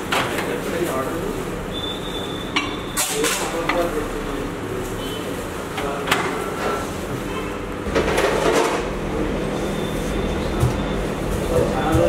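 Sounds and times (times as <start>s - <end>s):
microwave humming: 0.0s - 12.0s.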